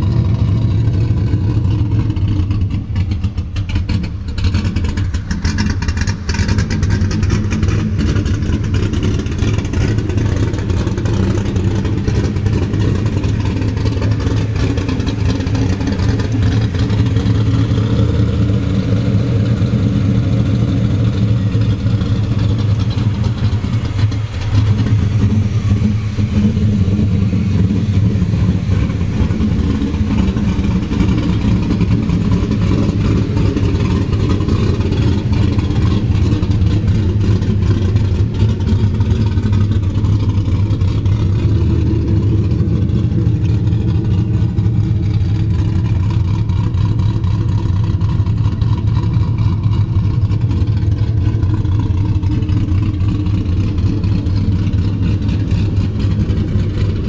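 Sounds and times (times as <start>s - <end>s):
lumpy engine idling: 0.0s - 57.0s.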